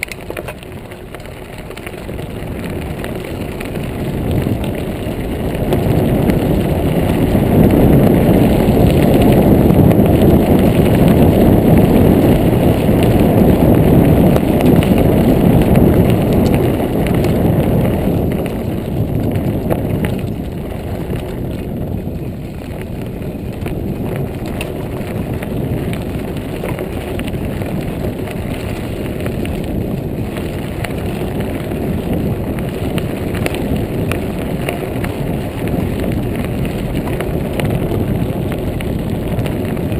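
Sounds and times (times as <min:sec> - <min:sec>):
bike tyres rolling on gravel: 0:00.0 - 0:39.9
wind on microphone: 0:00.0 - 0:39.9.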